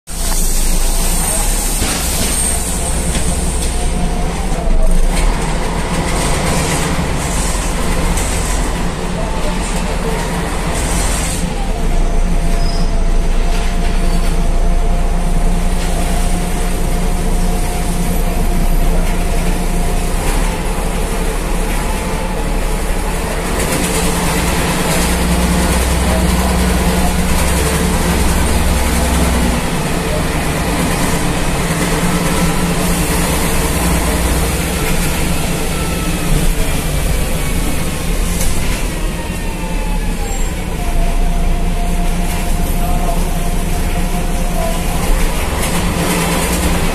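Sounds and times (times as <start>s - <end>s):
bus engine drone: 0.1s - 46.9s
road noise: 0.1s - 46.9s.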